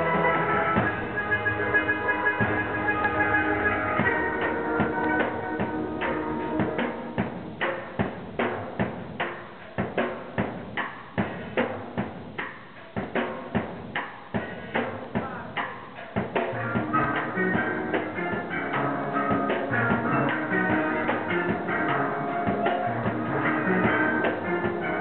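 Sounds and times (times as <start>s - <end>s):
steel pan band playing: 0.0s - 25.0s.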